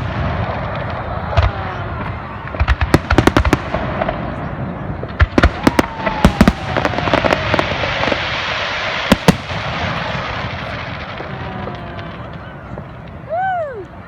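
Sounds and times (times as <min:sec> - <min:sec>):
firecracker bangs: 0:00.0 - 0:13.2
fireworks crackling: 0:00.0 - 0:14.0.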